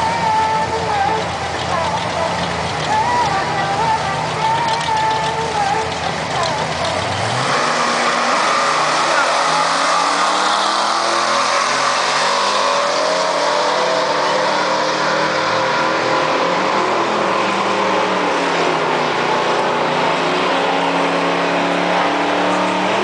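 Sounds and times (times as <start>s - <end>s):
drag racing car engines at full throttle: 0.0s - 23.0s.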